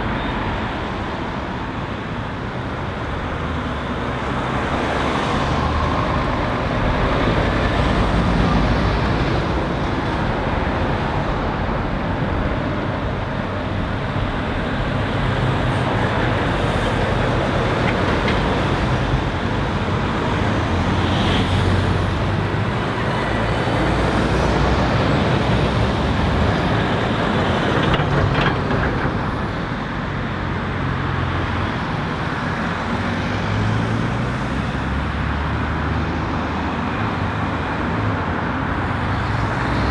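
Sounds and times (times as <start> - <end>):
cars passing: 0.0 - 39.9
lorry diesel engines: 0.0 - 39.9.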